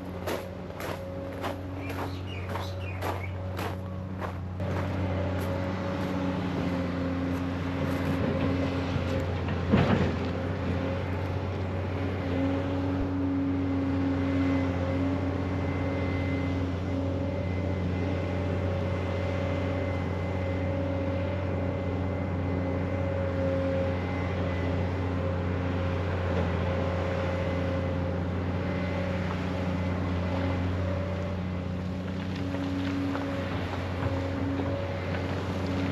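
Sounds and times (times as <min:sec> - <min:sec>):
engine humming: 0:00.0 - 0:35.9.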